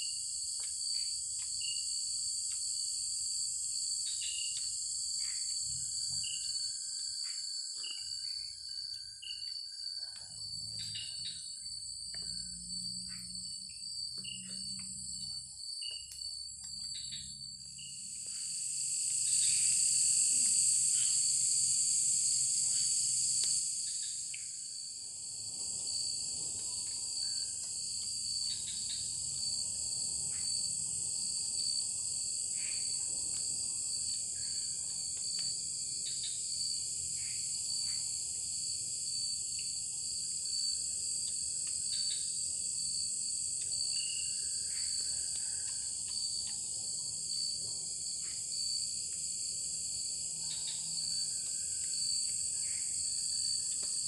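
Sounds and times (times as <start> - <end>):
forest insects chorus: 0.0 - 54.0.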